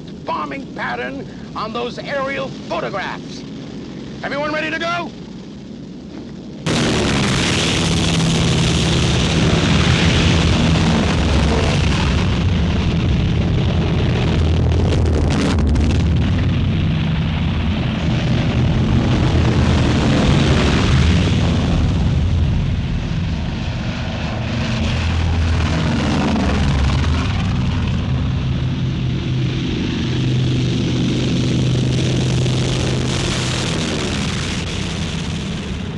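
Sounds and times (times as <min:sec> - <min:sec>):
propeller engines droning: 0:00.0 - 0:35.9.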